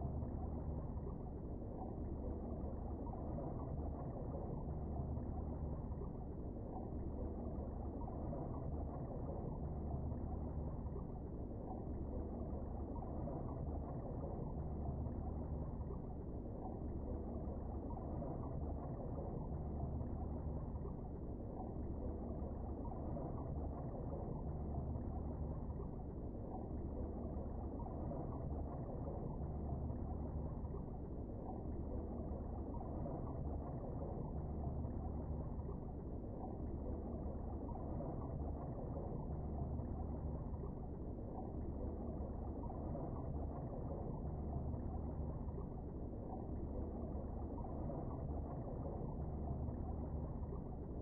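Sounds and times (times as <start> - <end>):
faint low hum: 0.0 - 51.0
muffled underwater rumble: 0.0 - 51.0.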